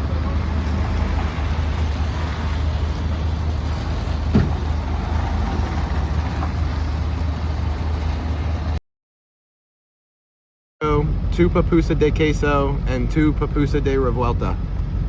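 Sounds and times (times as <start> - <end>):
road noise: 0.0 - 8.8, 10.8 - 15.0
vehicle engine droning: 0.0 - 8.8, 10.8 - 15.0.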